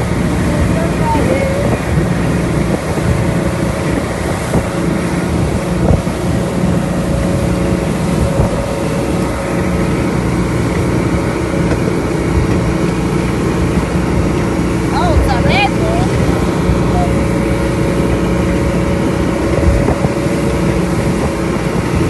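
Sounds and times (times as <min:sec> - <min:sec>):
motorboat engine running: 0:00.0 - 0:22.0
water rushing: 0:00.0 - 0:22.0
wind buffeting microphone: 0:00.0 - 0:22.0.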